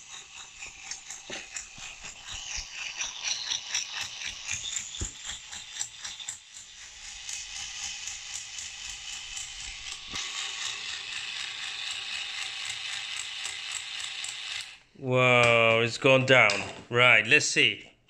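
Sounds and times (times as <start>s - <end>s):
toy drill ratcheting whir: 0.0s - 14.9s.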